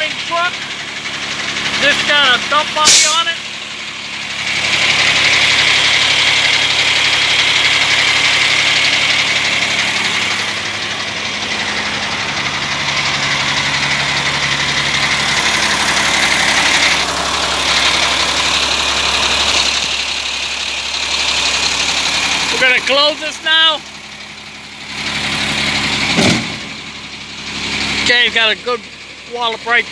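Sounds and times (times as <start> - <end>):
diesel truck engine idling: 0.0 - 29.9.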